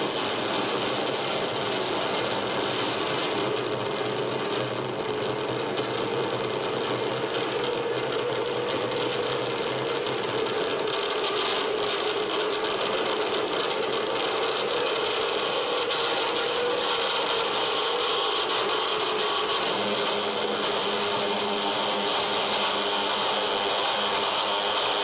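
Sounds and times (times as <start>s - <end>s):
harsh electronic noise: 0.0s - 25.0s
steady drone: 0.0s - 25.0s.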